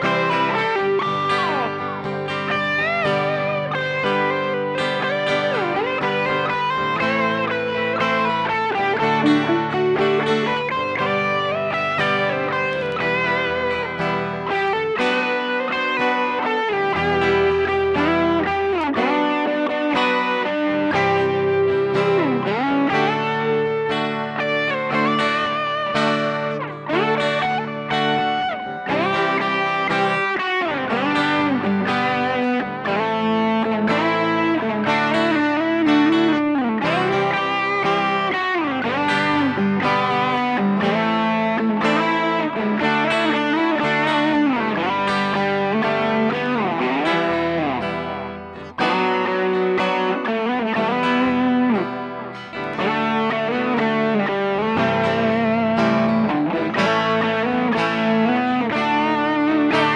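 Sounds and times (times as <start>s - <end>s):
electric guitar solo: 0.0s - 59.9s.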